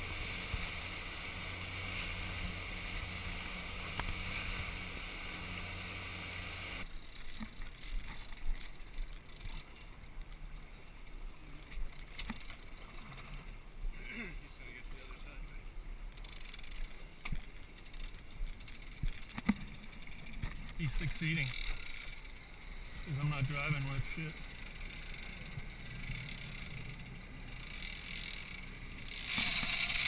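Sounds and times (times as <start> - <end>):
outboard motors humming: 0.0 - 30.0.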